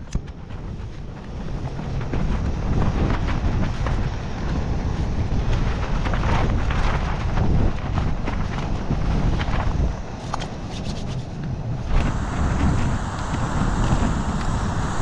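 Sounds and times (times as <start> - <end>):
tent fabric rattling: 0.0 - 12.3
strong wind buffeting microphone: 0.0 - 15.0.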